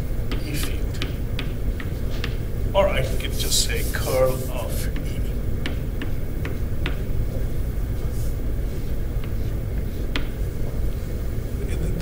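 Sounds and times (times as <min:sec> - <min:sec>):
chalk tapping on blackboard: 0:00.3 - 0:02.4, 0:03.3 - 0:11.0.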